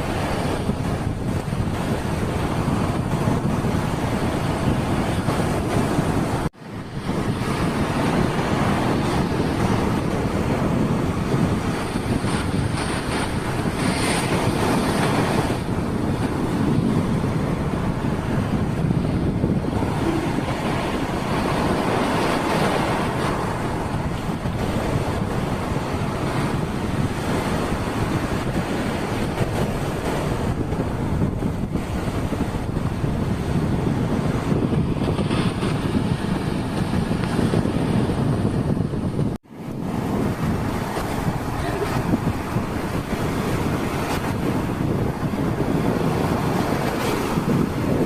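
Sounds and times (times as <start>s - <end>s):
breaking surf: 0.0s - 48.0s
wind buffeting microphone: 0.0s - 48.0s.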